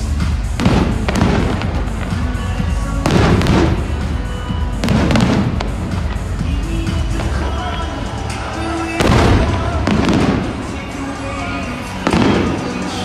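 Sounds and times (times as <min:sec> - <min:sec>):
fireworks booming and crackling: 0:00.0 - 0:13.0
music with heavy bass: 0:00.0 - 0:13.0.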